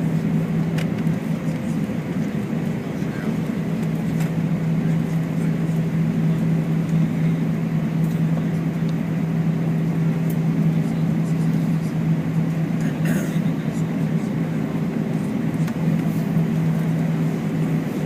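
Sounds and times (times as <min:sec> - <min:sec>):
aircraft cabin low hum: 0:00.0 - 0:18.0.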